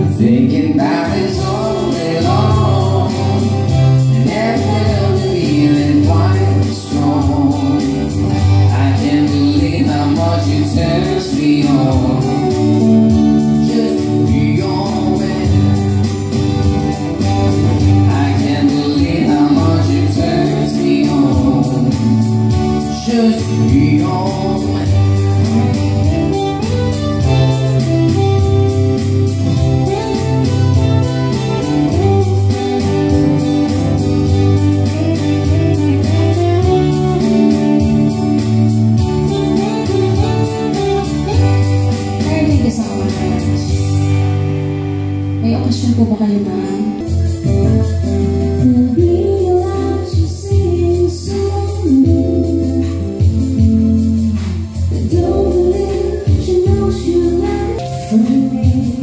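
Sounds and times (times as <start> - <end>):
person singing: 0.0 - 44.4, 45.3 - 59.0
live band accompaniment: 0.0 - 59.0.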